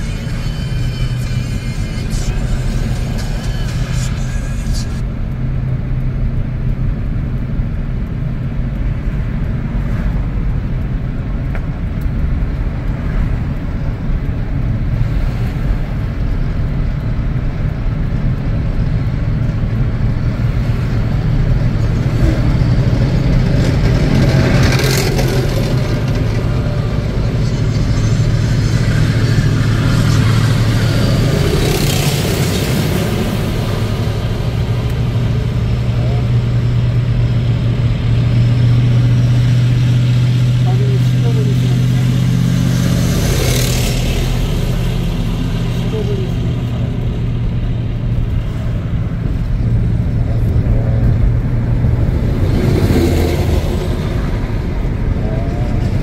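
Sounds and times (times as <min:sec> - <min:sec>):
armoured vehicles rumbling: 0:00.0 - 0:56.0
car engine and tyre noise: 0:00.0 - 0:56.0.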